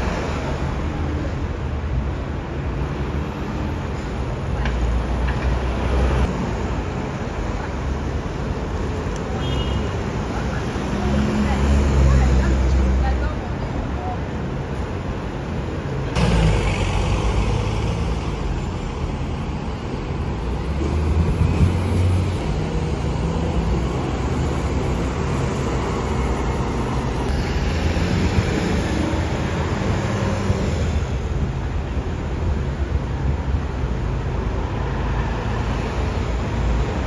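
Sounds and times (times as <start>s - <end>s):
buses driving past: 0.0s - 37.0s.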